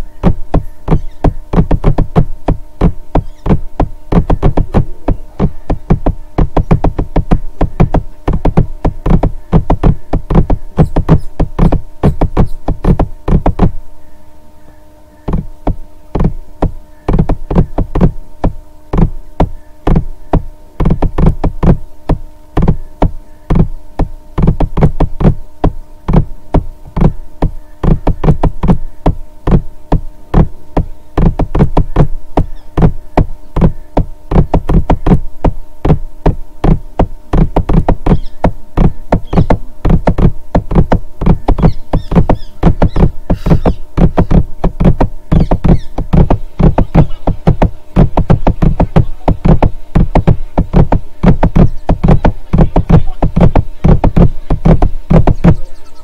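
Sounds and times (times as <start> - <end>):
electronic music knocking beat: 0.0 - 13.8, 15.2 - 56.0.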